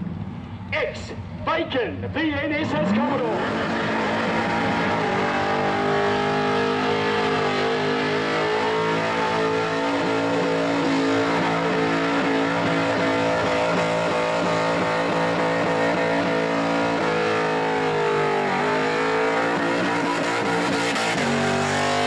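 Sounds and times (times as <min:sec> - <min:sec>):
car engine at high revs: 0:02.6 - 0:22.0.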